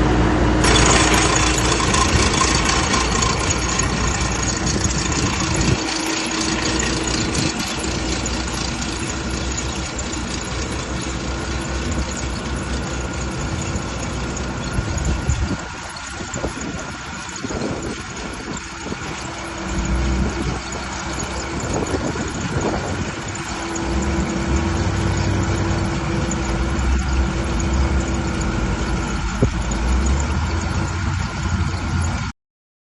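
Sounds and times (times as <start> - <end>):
tractor diesel engine running: 0.0 - 32.3.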